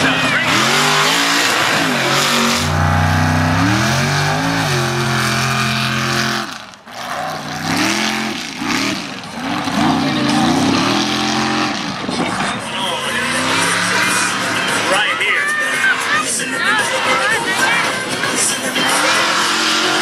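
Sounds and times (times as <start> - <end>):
truck engine at full throttle: 0.0 - 20.0
truck engine revving: 0.0 - 20.0.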